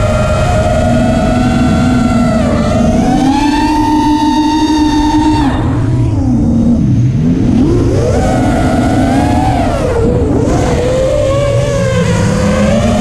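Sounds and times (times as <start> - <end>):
electric motor and propeller whining: 0.0 - 13.0
wind rushing over microphone: 0.0 - 13.0.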